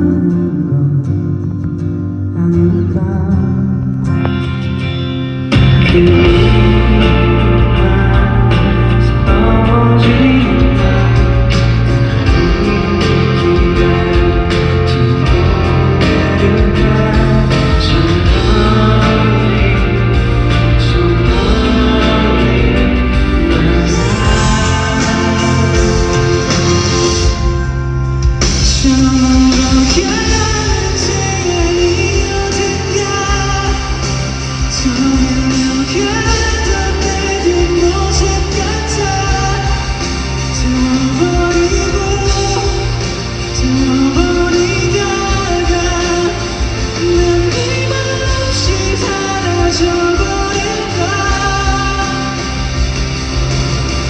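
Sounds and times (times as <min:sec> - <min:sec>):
live pop-rock band: 0:00.0 - 0:54.0
person singing: 0:00.0 - 0:54.0.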